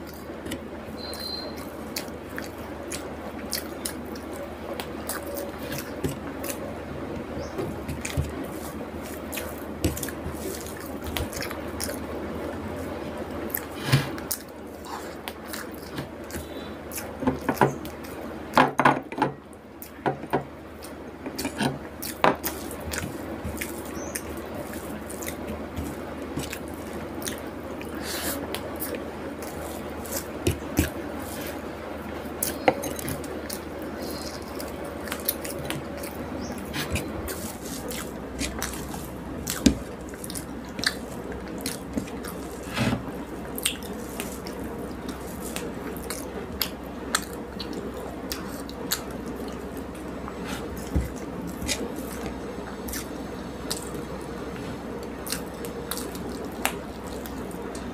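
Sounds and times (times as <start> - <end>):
low background hum: 0.0 - 57.9
wet chewing clicks and smacks: 1.2 - 7.4, 9.0 - 12.6, 13.5 - 18.2, 20.8 - 31.1, 32.3 - 42.7, 43.4 - 57.9.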